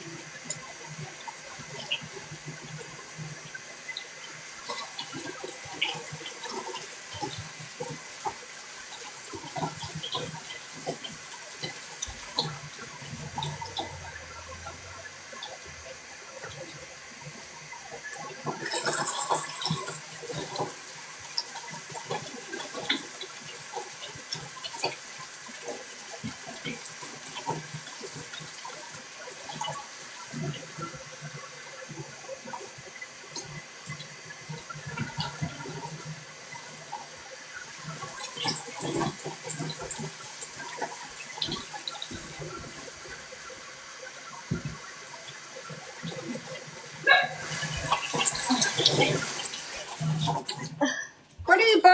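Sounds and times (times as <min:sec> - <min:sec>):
water running and splashing: 0:00.0 - 0:50.8.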